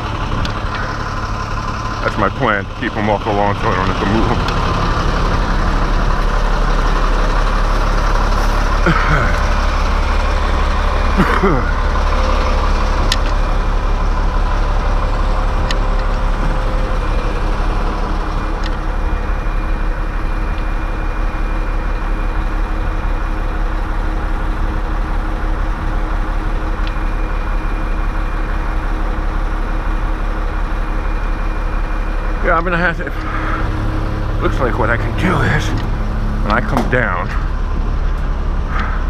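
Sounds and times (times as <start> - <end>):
heavy engine idling: 0.0 - 39.0.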